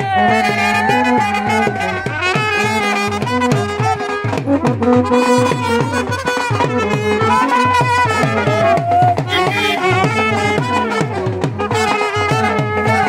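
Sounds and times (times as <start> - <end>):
fast drum beat: 0.0 - 13.0
street brass band playing: 0.0 - 13.0.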